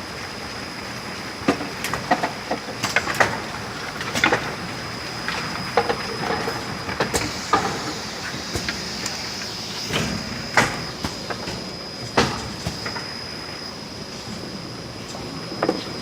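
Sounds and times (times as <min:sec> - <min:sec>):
conveyor high whine: 0:00.0 - 0:16.0.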